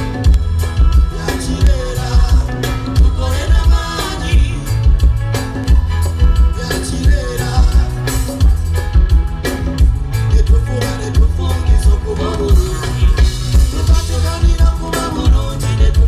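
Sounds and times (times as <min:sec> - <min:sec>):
pulsing bass beat: 0:00.0 - 0:16.0
person singing: 0:00.2 - 0:08.6, 0:10.2 - 0:16.0.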